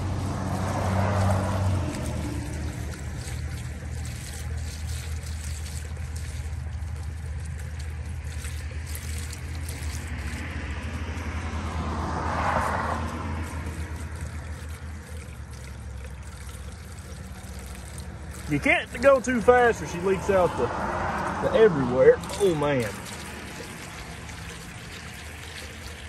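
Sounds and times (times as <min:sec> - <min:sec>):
fuel pouring into a funnel: 0:00.0 - 0:26.0.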